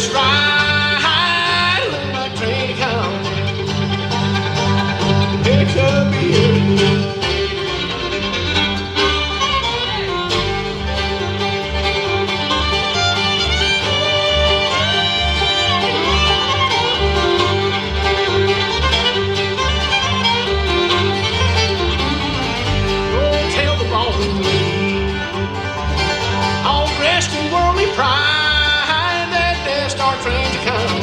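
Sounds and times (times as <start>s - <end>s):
bluegrass band playing: 0.0s - 31.0s
fiddle playing: 0.0s - 31.0s
upright bass pulsing: 0.0s - 31.0s.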